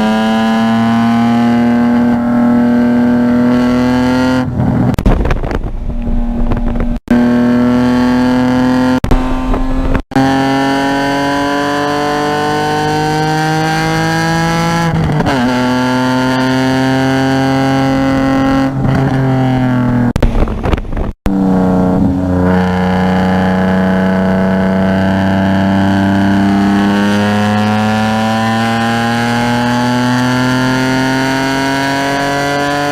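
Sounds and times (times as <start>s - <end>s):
car engine under load: 0.0s - 32.9s.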